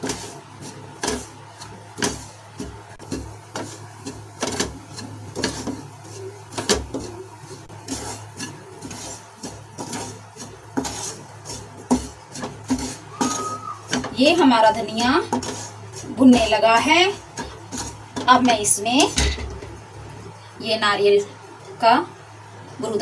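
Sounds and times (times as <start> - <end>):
wooden spatula scraping a pan: 0.0 - 20.3.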